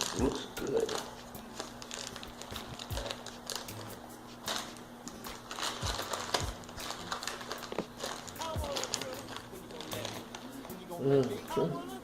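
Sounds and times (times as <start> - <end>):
plastic pouch crinkling: 0.0 - 11.9.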